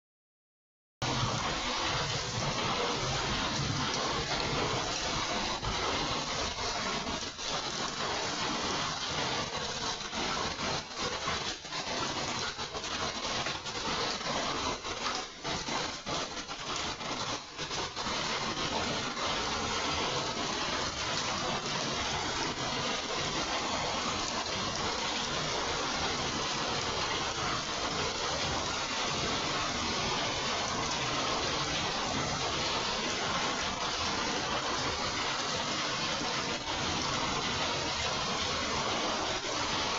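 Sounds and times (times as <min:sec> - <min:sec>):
rain falling: 0:01.0 - 0:39.9.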